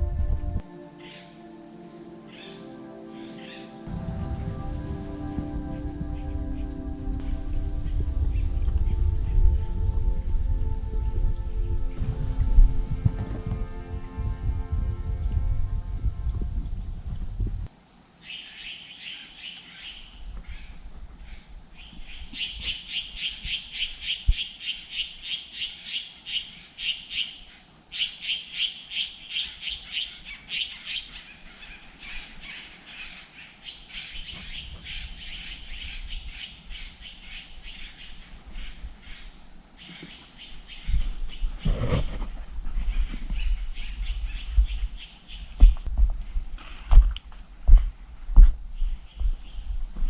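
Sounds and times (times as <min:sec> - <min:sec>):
steady high-pitched hum: 0:00.0 - 0:18.2, 0:20.0 - 0:50.0.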